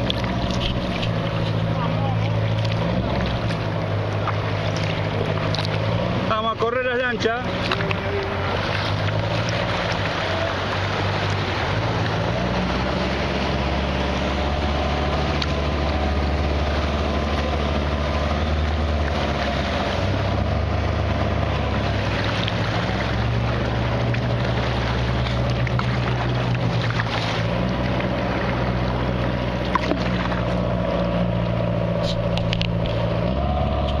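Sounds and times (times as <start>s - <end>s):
motorboat engine drone: 0.0s - 34.0s
water washing past hull: 0.0s - 34.0s.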